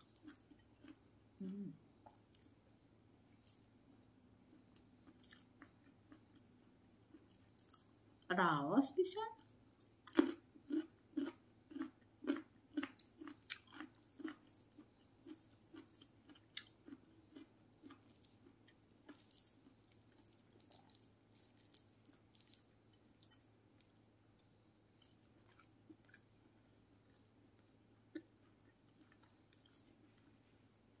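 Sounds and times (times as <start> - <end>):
person chewing food: 0.0 - 8.0, 9.4 - 30.7.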